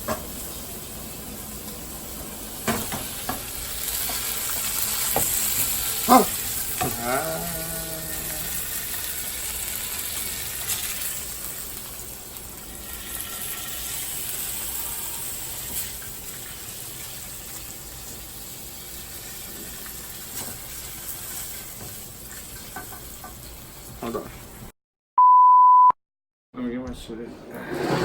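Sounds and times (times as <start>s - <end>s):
food sizzling in a frying pan: 0.0s - 24.7s.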